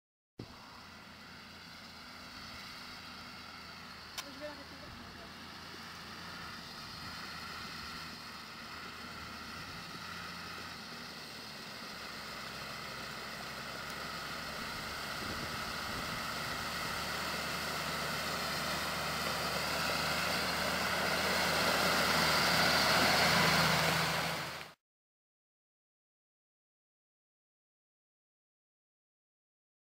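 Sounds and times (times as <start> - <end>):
tractor diesel engine under load: 0.4 - 24.8.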